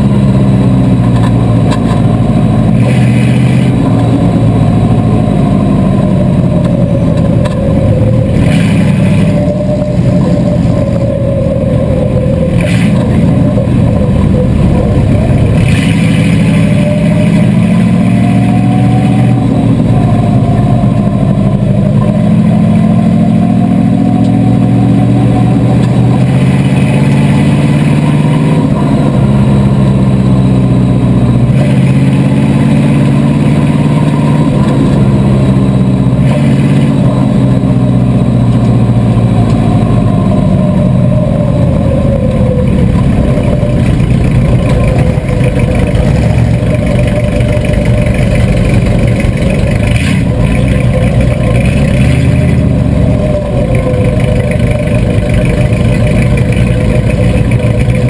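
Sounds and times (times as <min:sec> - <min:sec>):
loud car engine from inside: 0:00.0 - 0:58.0.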